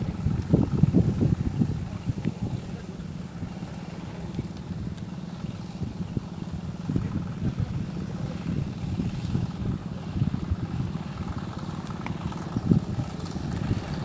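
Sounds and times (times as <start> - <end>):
boat motor rumbling: 0.0 - 14.0
wind buffeting microphone: 0.0 - 14.0.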